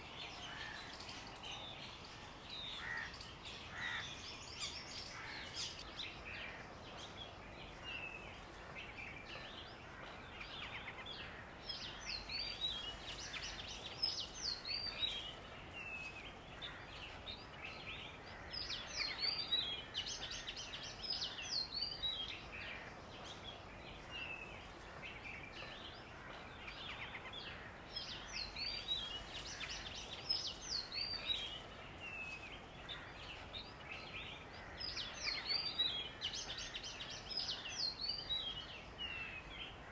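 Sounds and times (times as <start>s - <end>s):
birds chirping: 0.0s - 39.9s
faint background hiss: 0.0s - 39.9s.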